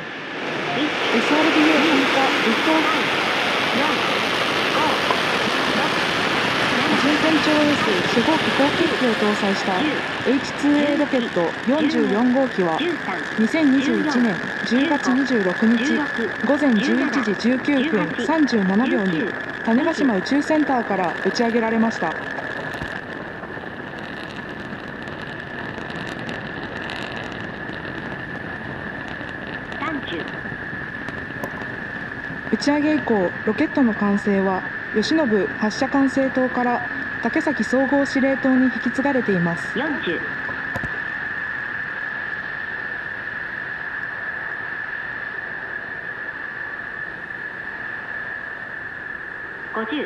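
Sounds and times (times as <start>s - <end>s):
rocket engine rushing: 0.0s - 43.0s.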